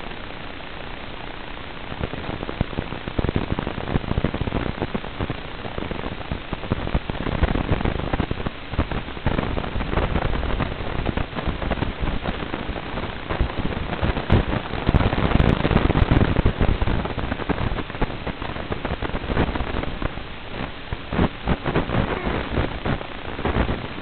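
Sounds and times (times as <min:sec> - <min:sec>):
radio static hiss and crackle: 0:00.0 - 0:24.0.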